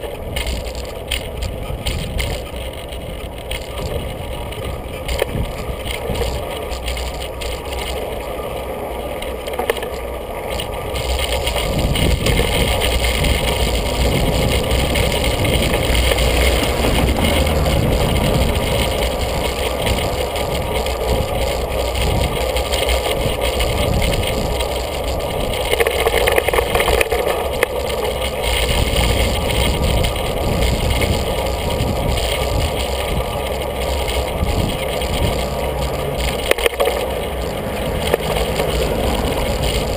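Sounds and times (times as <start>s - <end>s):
small rattles: 0.0s - 39.9s
tyre and road rumble: 0.0s - 39.9s
wind rush on microphone: 0.0s - 39.9s.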